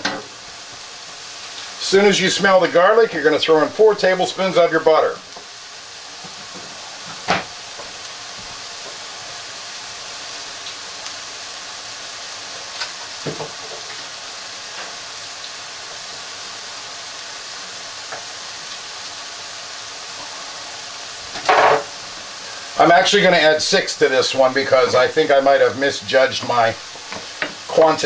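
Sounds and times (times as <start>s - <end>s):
vegetables sizzling in a pan: 0.0s - 28.0s.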